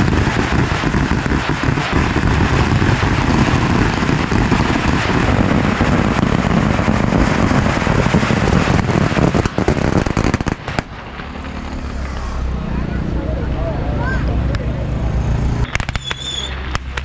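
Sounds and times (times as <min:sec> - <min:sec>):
firecrackers crackling: 0:00.0 - 0:17.0.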